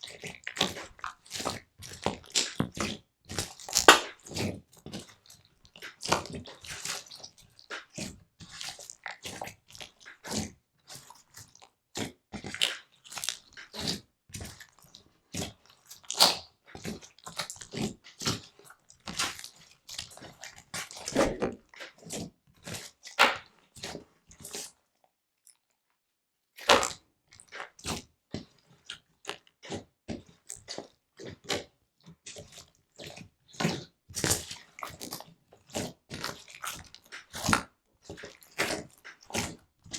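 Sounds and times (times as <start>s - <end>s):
slime squelching and popping: 0.0s - 24.7s, 26.6s - 39.6s.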